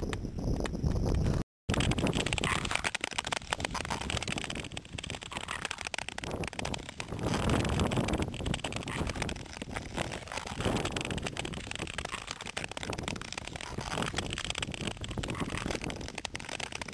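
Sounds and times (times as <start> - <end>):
wind on microphone: 0.0 - 16.9
skate blades scraping ice: 1.7 - 16.9.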